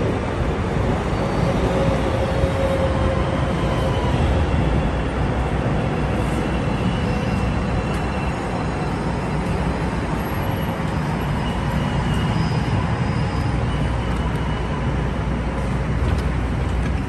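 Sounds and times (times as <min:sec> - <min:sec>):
road traffic noise: 0:00.0 - 0:17.0
train rumble and hiss: 0:00.0 - 0:17.0.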